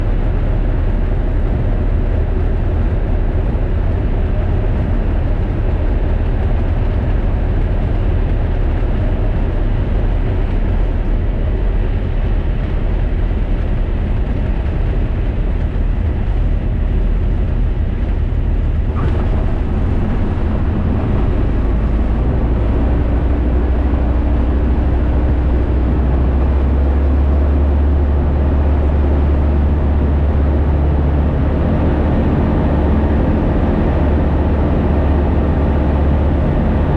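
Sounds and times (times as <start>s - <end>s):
aircraft engine and airflow noise: 0.0s - 36.9s
deep rumble: 0.0s - 36.9s
steady hum: 0.0s - 36.9s.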